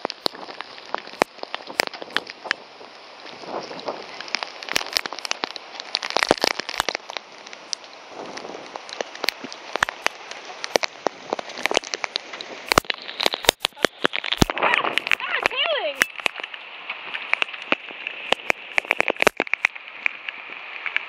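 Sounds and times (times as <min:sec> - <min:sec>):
hail ticking on surfaces: 0:00.0 - 0:21.0
heavy rain pouring: 0:00.0 - 0:21.0.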